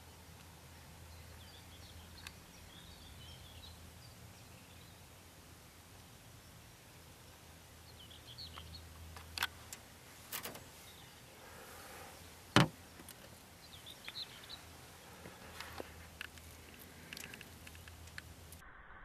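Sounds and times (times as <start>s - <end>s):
bird singing: 0.0s - 5.4s, 6.0s - 9.5s, 10.4s - 18.5s.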